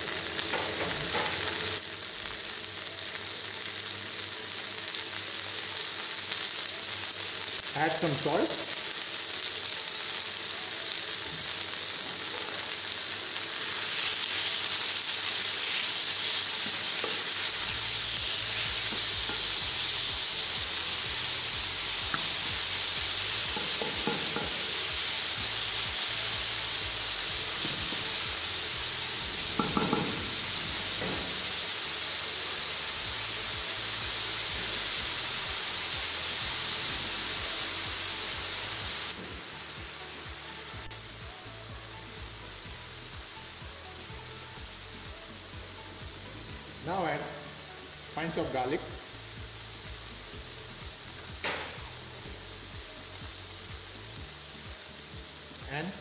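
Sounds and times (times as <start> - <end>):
chicken and onions sizzling in oil: 0.0 - 56.0.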